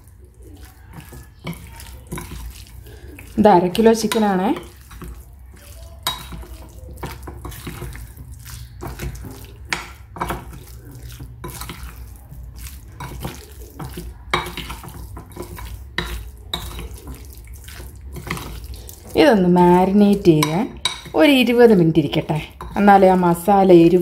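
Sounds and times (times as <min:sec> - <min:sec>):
hand squelching marinade: 0:00.0 - 0:24.0.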